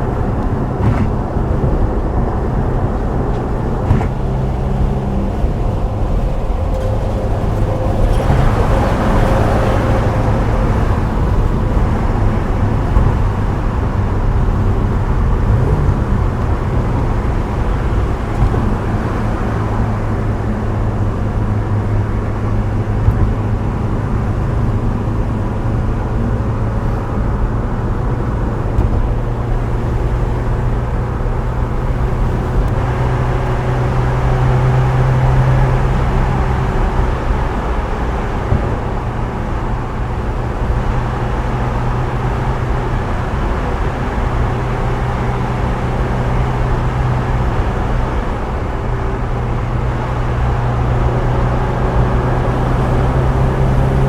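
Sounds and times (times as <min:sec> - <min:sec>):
car engine cruising: 0:00.0 - 0:54.0
tyre and road noise: 0:00.0 - 0:54.0.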